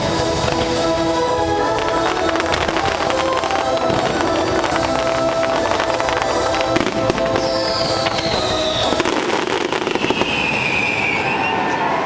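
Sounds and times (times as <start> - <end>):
music soundtrack: 0.0 - 11.0
fireworks bursting and crackling: 0.0 - 11.9
fireworks falling whistles: 0.0 - 12.0.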